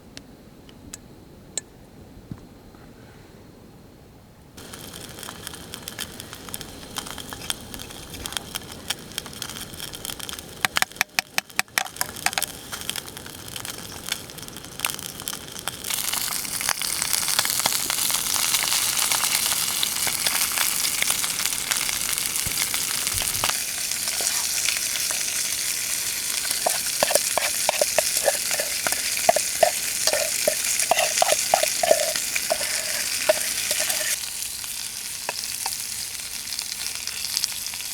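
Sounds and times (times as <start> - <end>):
food sizzling in a hot pan: 4.6 - 37.9.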